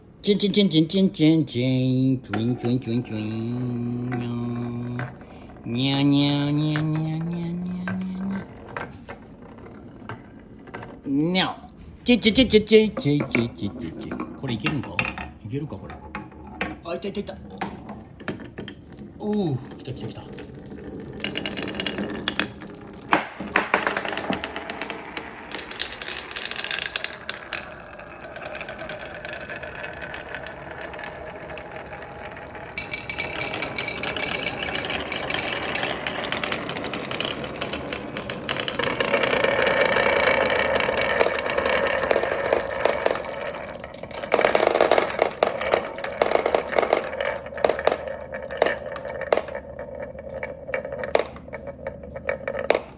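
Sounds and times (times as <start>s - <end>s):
marbles rattling down wooden track: 2.3s - 10.9s, 18.2s - 52.9s.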